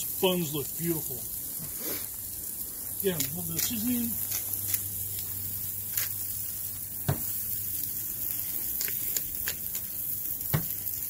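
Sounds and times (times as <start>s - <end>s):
burger patties sizzling on grill: 0.0s - 11.0s.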